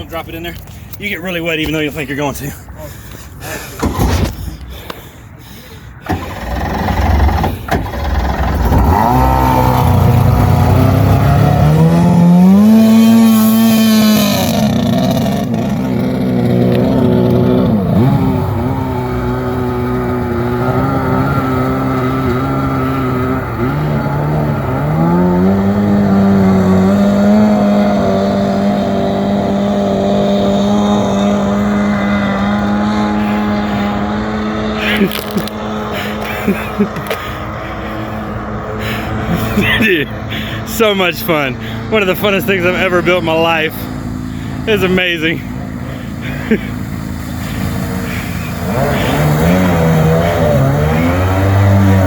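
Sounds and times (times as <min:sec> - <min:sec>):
jet boat engine revving: 0:03.0 - 0:52.0.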